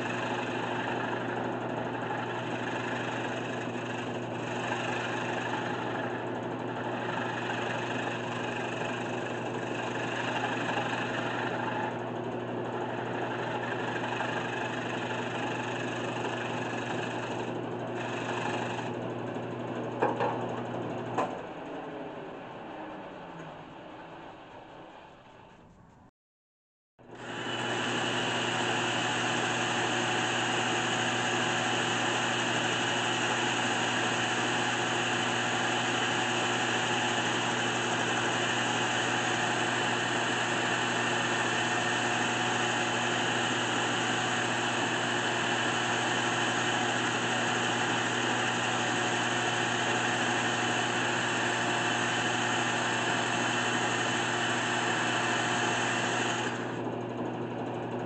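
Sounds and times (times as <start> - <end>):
drill sanding wood: 0.0 - 20.7, 27.1 - 57.5
lathe motor hum: 0.0 - 25.6, 27.0 - 58.0.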